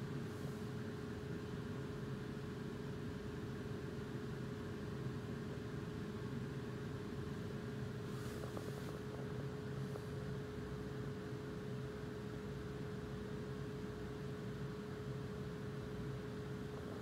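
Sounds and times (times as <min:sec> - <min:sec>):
laptop cooling fan humming: 0:00.0 - 0:17.0.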